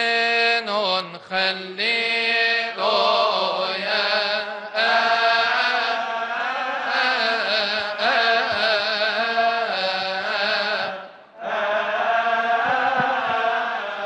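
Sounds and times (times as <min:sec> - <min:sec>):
voices chanting a hymn: 0:00.0 - 0:14.0.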